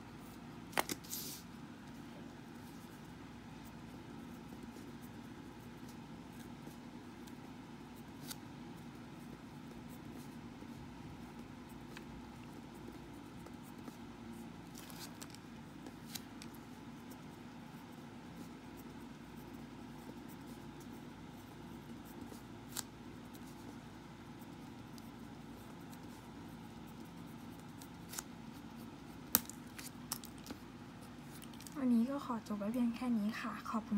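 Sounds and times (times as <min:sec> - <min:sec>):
low room hum: 0:00.0 - 0:33.9.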